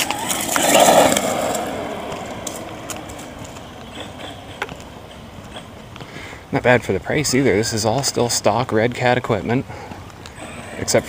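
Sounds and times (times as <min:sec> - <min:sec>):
rc truck tyres on cement: 0:00.0 - 0:11.0.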